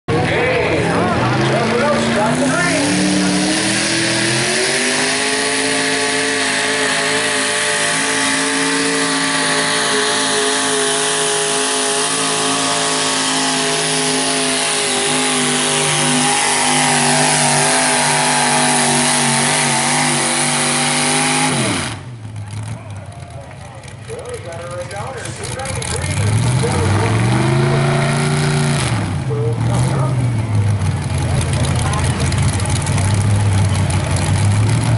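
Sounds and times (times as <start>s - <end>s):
tractor engine at high revs: 0.1s - 34.9s.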